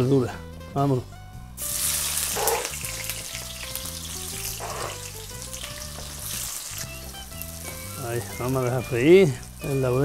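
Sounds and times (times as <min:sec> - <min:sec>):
background music: 0:00.0 - 0:10.0
onion sizzling in oil: 0:01.5 - 0:10.0.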